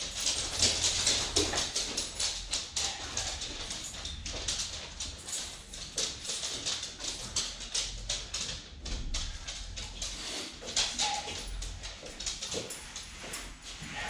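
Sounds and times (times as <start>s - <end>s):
dog claws clicking on floor: 0.0s - 14.0s
footsteps: 0.0s - 14.0s.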